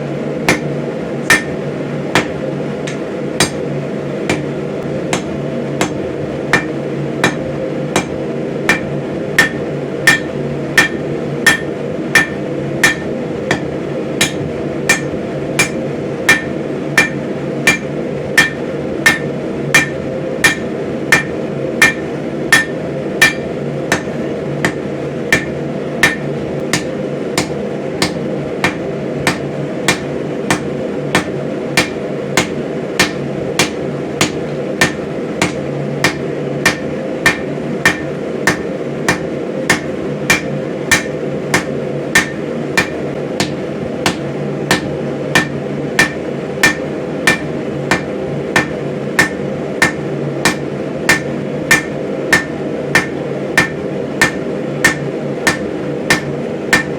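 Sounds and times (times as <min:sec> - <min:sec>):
steady low hum: 0:00.0 - 0:56.9
hammer striking metal on anvil: 0:00.5 - 0:03.6, 0:04.3 - 0:04.5, 0:05.1 - 0:56.9.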